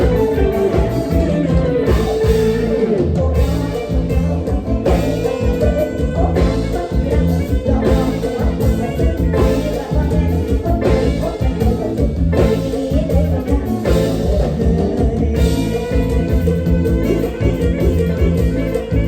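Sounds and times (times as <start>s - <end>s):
drum kit dance beat: 0.0s - 19.0s
electric bass: 0.0s - 19.0s
person singing: 0.0s - 19.0s.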